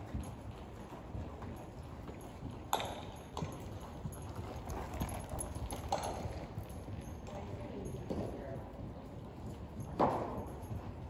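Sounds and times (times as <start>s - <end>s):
horse hooves thudding on dirt: 0.0s - 11.0s.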